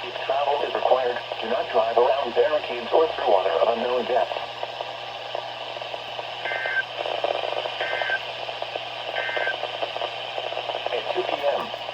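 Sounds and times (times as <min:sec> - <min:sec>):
radio static: 0:00.0 - 0:11.9.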